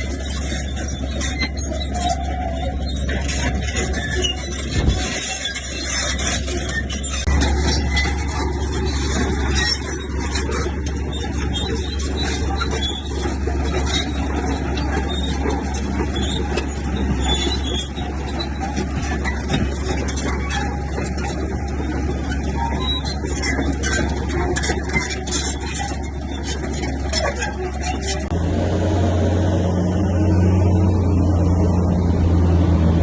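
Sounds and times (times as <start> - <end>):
rapid metallic clatter: 0.0 - 28.4
bulldozer diesel engine droning: 0.0 - 33.0.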